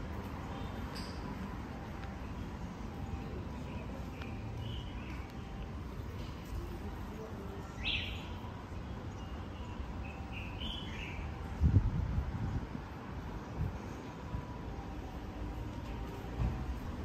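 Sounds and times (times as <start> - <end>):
low street hum: 0.0 - 17.0.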